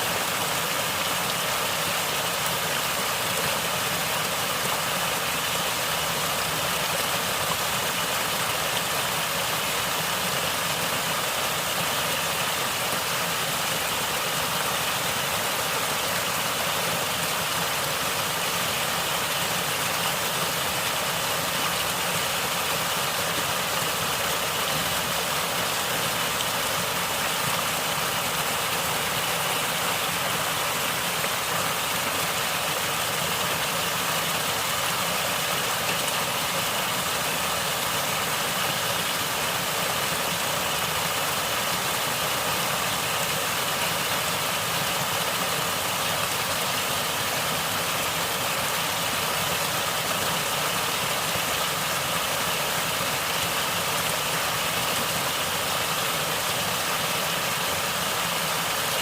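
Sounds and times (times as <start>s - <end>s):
running water gurgling: 0.0s - 59.0s.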